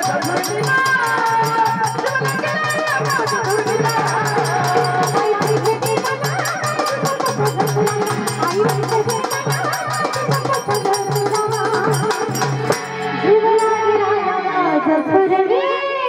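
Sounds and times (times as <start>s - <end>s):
folk percussion and melody instruments: 0.0s - 16.0s.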